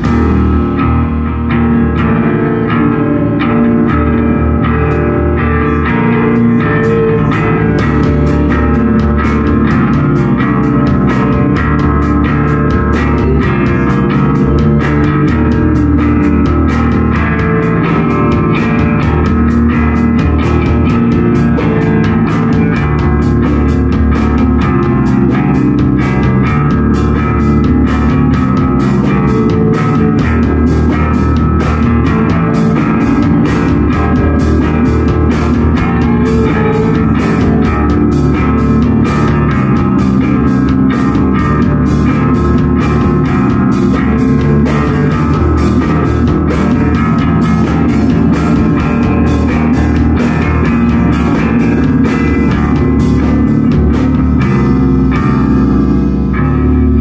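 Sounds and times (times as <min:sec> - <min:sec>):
drum kit beat: 0:00.0 - 0:57.0
electric guitars: 0:00.0 - 0:57.0.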